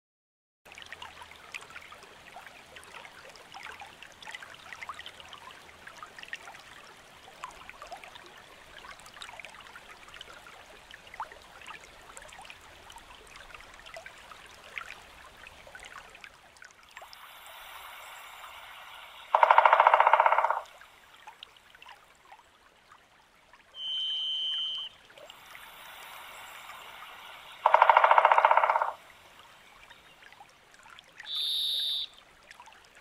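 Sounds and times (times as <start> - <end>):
creek trickling and babbling: 0.7 - 33.0
faint steady hiss: 0.8 - 33.0.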